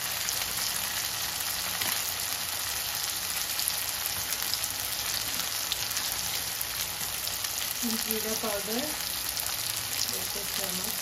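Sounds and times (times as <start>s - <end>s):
beans sizzling in oil: 0.0s - 11.0s.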